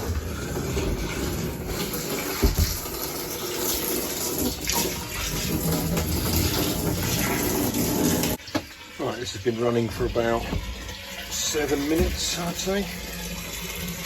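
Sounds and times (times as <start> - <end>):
water gushing from hose into tank: 0.0 - 14.0.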